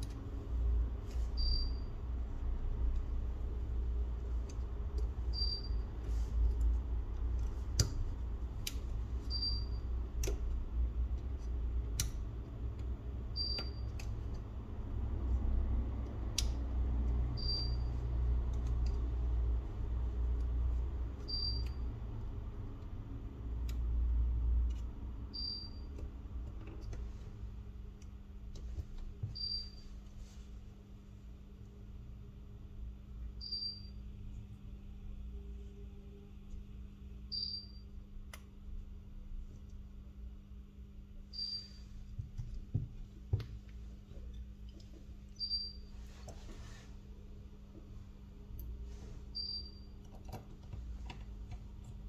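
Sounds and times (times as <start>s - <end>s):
steady hum: 0.0s - 52.0s.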